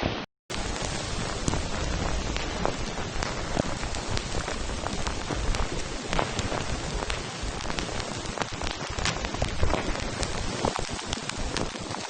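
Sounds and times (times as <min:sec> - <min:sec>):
raindrops tapping close by: 0:00.5 - 0:12.0
steady rain hiss: 0:00.5 - 0:12.0.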